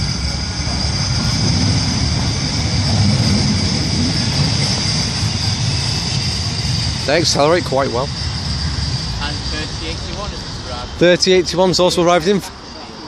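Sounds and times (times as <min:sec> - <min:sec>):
motor whine shifting in pitch: 0:00.0 - 0:12.4
tram wheels and motors rumbling: 0:00.0 - 0:13.0.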